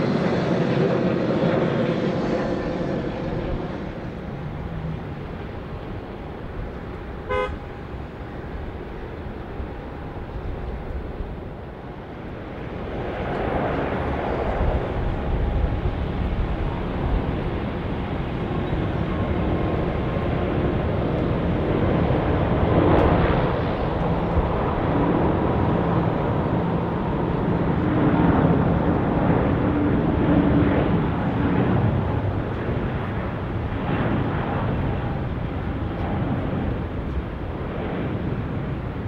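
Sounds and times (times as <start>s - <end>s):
jet engines at takeoff power: 0.0s - 39.0s.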